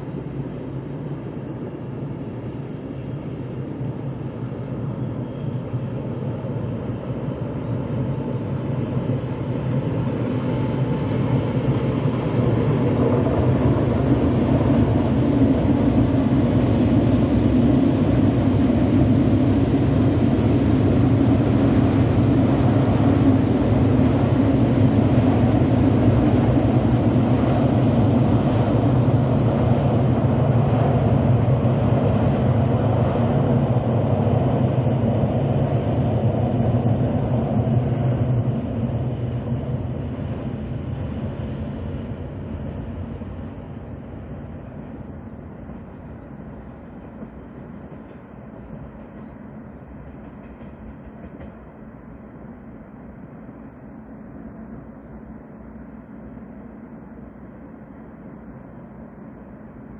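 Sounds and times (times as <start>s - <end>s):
train wheels running on rails: 0.0s - 59.9s.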